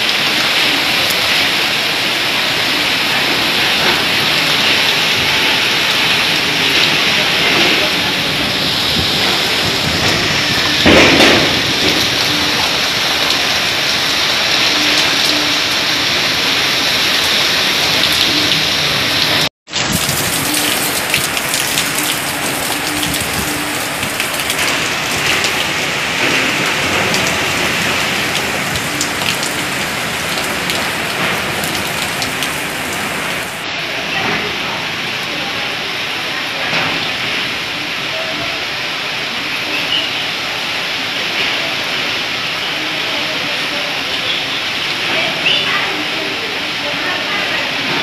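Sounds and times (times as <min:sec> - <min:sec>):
heavy rain on rooftops: 0:00.0 - 0:48.0.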